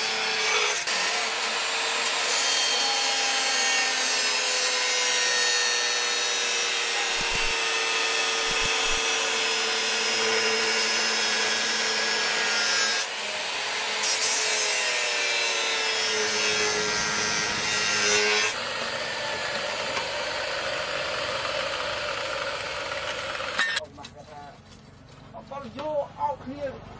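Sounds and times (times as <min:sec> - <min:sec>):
angle grinder cutting steel: 0:00.0 - 0:23.8.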